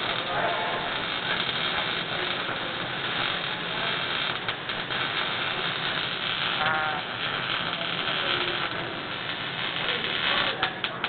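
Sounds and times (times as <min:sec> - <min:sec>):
welding arc crackling: 0:00.0 - 0:11.0.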